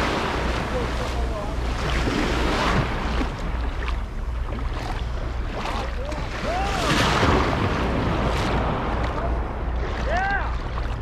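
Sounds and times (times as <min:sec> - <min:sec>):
small waves washing on beach: 0:00.0 - 0:11.0
wind on microphone: 0:00.0 - 0:11.0.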